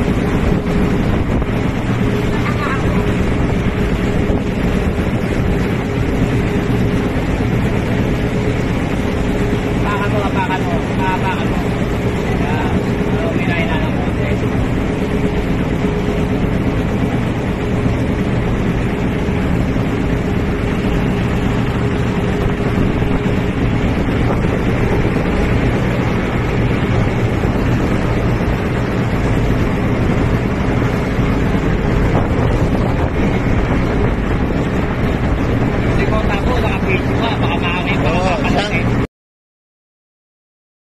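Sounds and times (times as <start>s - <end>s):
boat engine running: 0.0s - 39.1s
wind noise on microphone: 0.0s - 39.1s.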